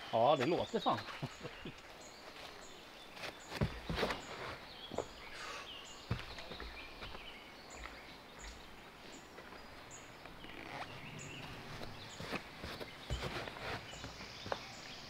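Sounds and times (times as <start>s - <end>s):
songbirds calling: 0.0s - 15.0s.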